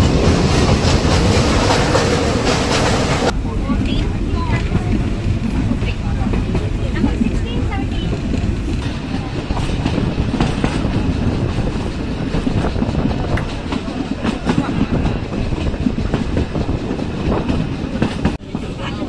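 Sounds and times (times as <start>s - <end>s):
train rumbling: 0.0s - 19.0s
wheels clacking over rails: 0.0s - 19.0s.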